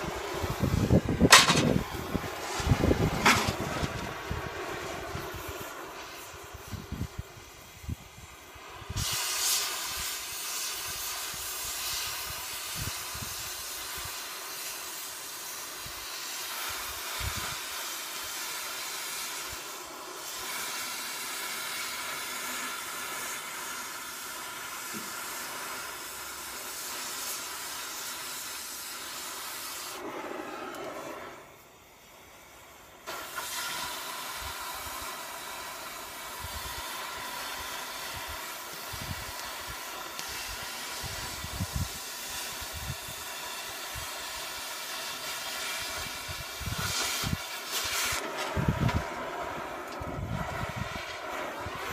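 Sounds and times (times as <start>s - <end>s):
cutting torch hissing: 0.0s - 51.9s.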